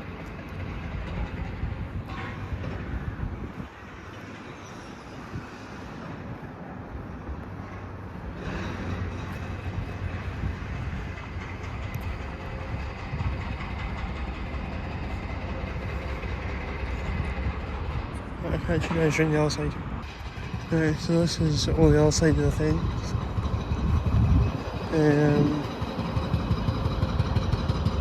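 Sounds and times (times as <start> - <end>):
demolition machinery rumbling: 0.0 - 4.4, 7.7 - 28.0.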